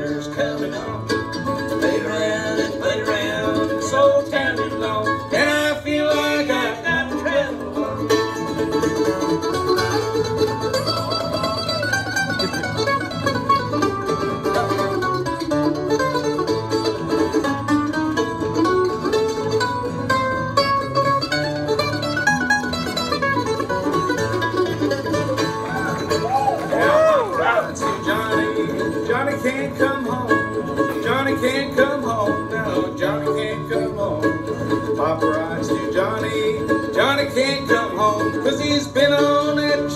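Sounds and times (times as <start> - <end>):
acoustic guitar strumming: 0.0 - 39.9
mandolin melody: 0.0 - 39.9.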